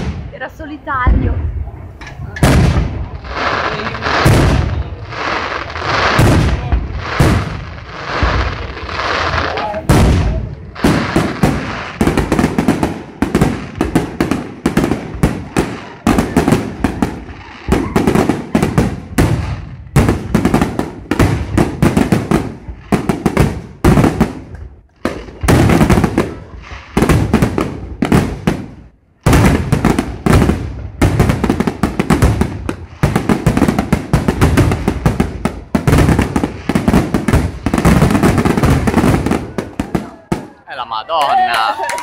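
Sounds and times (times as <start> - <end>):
firework crackle: 0.0 - 42.0.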